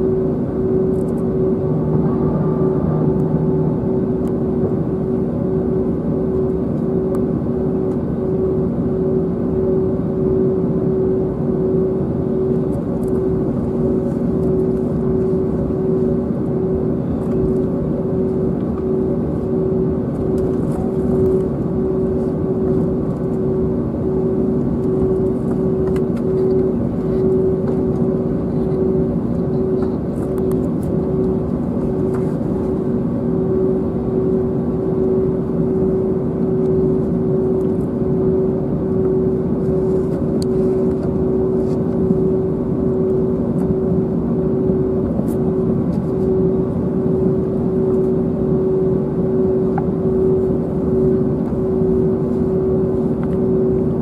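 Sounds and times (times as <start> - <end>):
jet engines rumbling at taxi: 0.0 - 54.0
steady cabin hum: 0.0 - 54.0.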